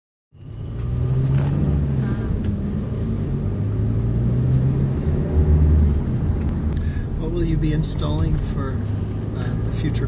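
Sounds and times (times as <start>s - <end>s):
car engine and road rumble: 0.4s - 10.0s.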